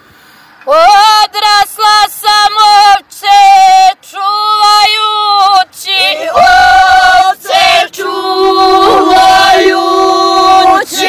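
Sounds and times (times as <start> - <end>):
women singing folk song: 0.6 - 11.0.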